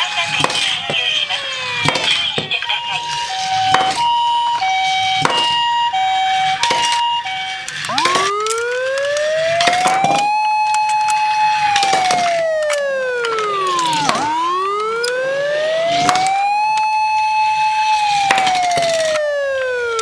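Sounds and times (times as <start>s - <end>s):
ambulance siren: 0.0s - 20.0s.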